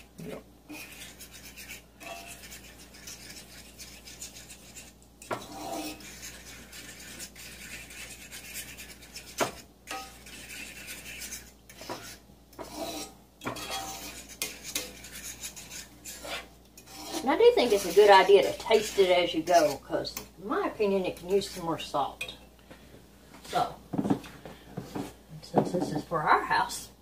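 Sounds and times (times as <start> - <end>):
utensil scraping skillet: 0.0 - 22.4.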